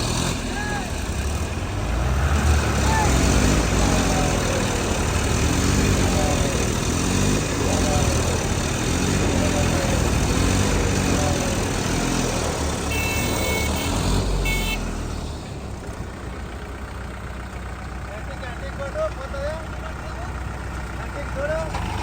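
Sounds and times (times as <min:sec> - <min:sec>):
tractor engines revving under load: 0:00.0 - 0:22.0.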